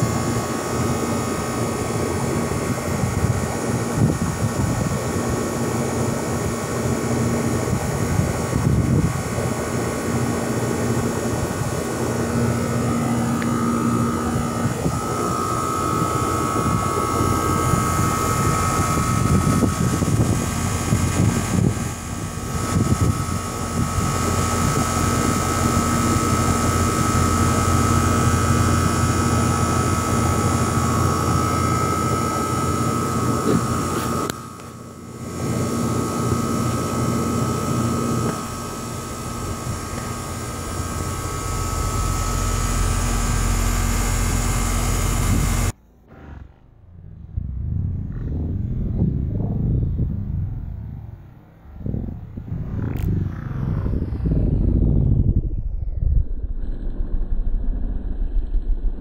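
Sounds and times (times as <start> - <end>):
air conditioner unit running: 0.0 - 55.5.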